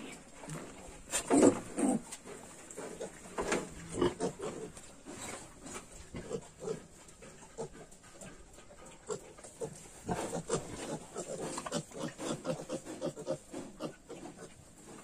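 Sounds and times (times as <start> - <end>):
pigs grunting: 1.1 - 2.1, 2.8 - 5.4, 6.1 - 15.0.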